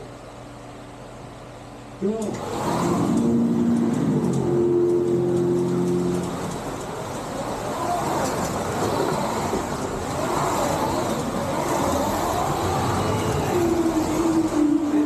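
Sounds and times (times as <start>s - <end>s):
slot car motors whining: 2.0s - 15.0s
steady rushing noise: 2.4s - 15.0s.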